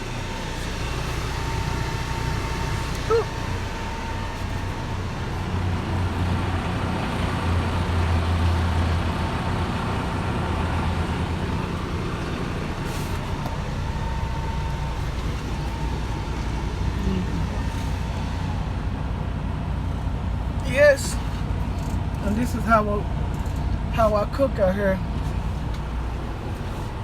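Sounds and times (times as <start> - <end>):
faint steady whine: 0.0 - 7.9, 9.3 - 27.0
diesel truck engine idling: 0.0 - 27.0.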